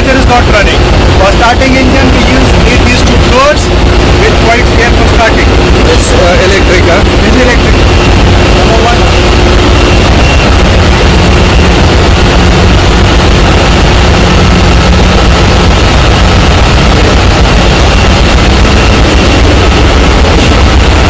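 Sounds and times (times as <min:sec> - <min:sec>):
engine deep hum: 0:00.0 - 0:21.0
faint high whine: 0:00.0 - 0:21.0
machinery roar: 0:00.0 - 0:21.0.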